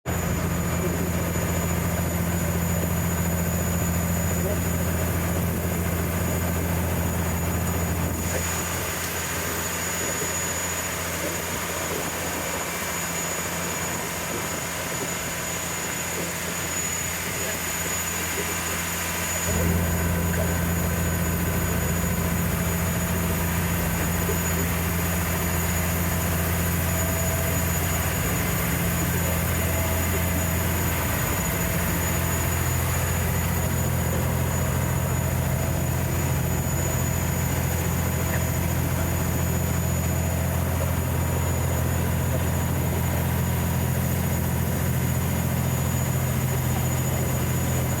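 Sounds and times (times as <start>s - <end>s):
faint high whine: 0.1s - 48.0s
ferry engines droning: 0.1s - 48.0s.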